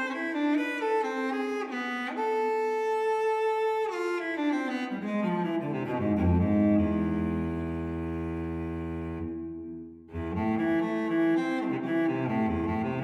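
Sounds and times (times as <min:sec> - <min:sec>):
bowed strings music: 0:00.0 - 0:13.0.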